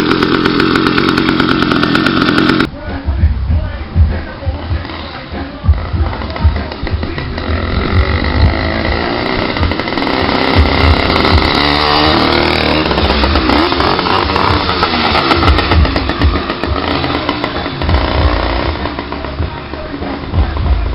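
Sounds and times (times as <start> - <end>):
two-stroke engine running loud: 0.0 - 2.7, 4.7 - 20.9.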